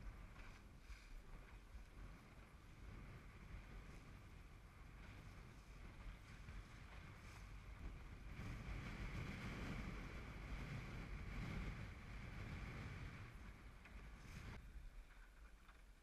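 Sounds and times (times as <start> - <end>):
wind buffeting microphone: 0.0 - 15.1.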